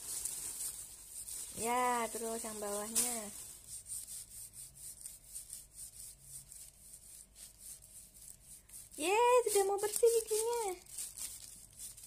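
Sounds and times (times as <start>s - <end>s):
toothbrush scrubbing plastic sheet: 0.0s - 12.0s.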